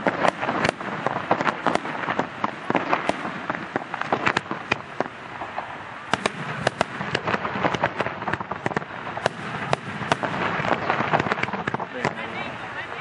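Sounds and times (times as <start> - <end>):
continuous noisy background: 0.0 - 13.0
fireworks bangs: 0.0 - 13.0.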